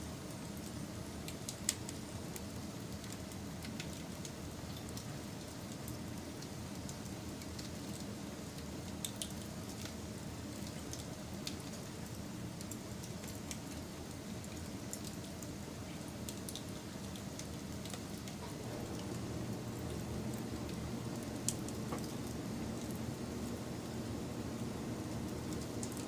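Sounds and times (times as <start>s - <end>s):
wood fire crackling and popping: 0.5s - 26.0s.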